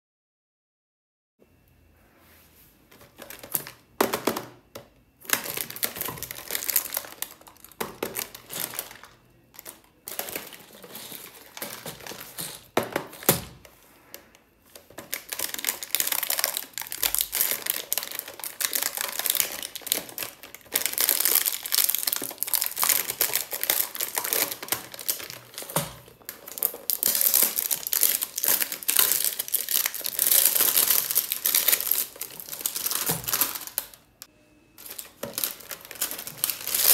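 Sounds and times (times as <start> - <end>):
plastic shrink-wrap crinkling: 2.9 - 36.9.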